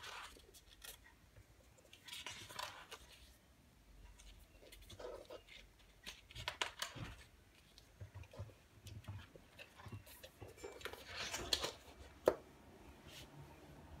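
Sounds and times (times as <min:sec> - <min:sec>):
book pages rustling: 0:00.0 - 0:13.4.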